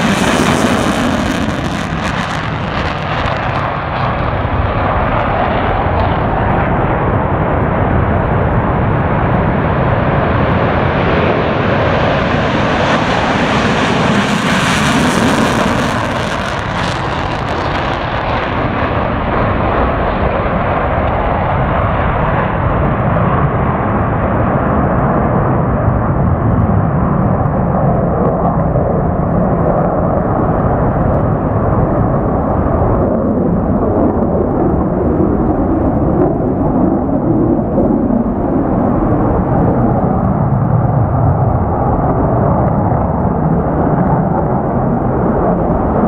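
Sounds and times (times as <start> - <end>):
jet engines rumbling: 0.0 - 46.0.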